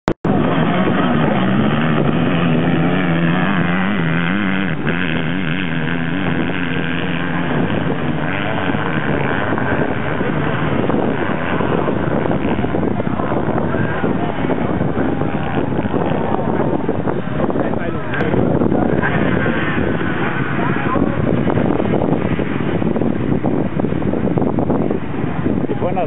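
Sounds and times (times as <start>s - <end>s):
motorcycle engines revving: 0.2s - 26.0s.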